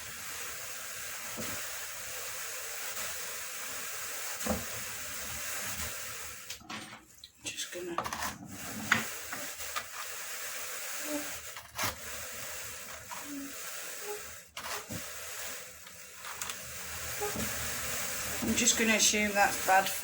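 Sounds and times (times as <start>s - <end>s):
drum carder rustling hiss: 0.0s - 6.5s, 8.5s - 20.0s.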